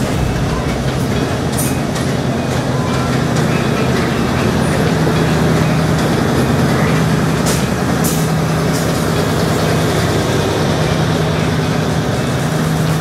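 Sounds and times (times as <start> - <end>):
locomotive engine drone: 0.0 - 13.0.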